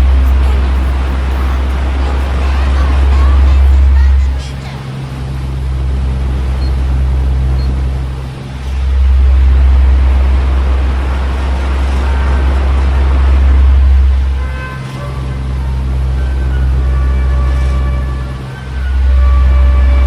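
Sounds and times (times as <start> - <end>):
fan droning hum: 0.0 - 20.0.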